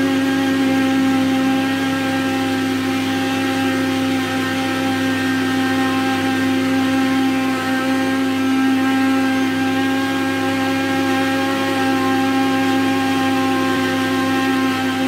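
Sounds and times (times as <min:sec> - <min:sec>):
blender motor whining: 0:00.0 - 0:15.0.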